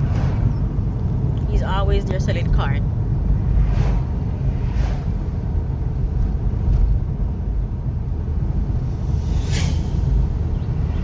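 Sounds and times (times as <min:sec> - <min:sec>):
car driving on road: 0:00.0 - 0:11.0.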